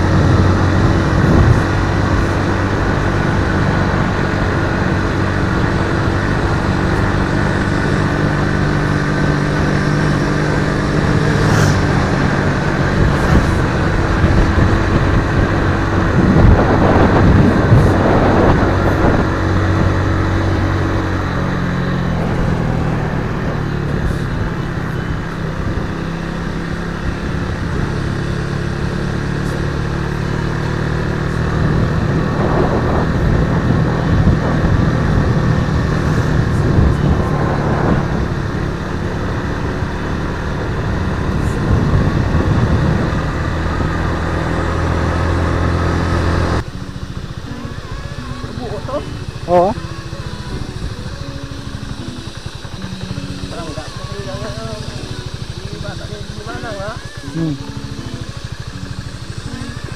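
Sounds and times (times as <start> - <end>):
wind buffeting microphone: 0.0 - 28.6, 31.0 - 56.4
motorcycle engine running: 0.0 - 59.9.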